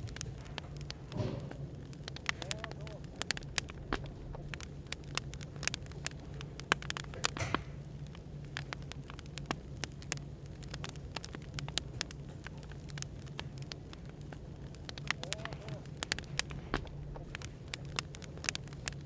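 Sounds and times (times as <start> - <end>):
cafe background noise: 0.0 - 19.0
wood fire crackling: 0.0 - 19.0.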